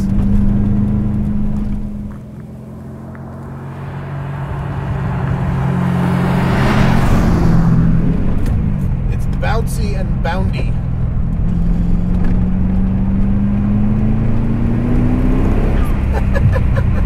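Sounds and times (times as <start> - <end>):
car engine running under power: 0.0 - 17.0.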